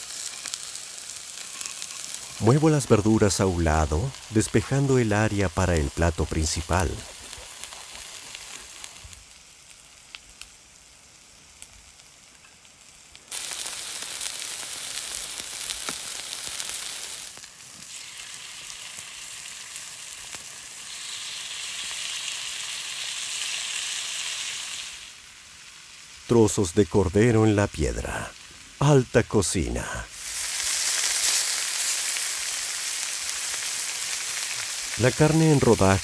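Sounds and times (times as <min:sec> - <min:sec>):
meat sizzling on hot stone: 0:00.0 - 0:36.0.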